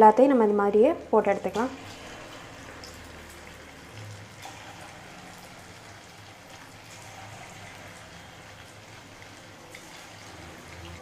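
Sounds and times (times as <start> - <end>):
deep-frying sizzle with crackles: 0.2 - 11.0.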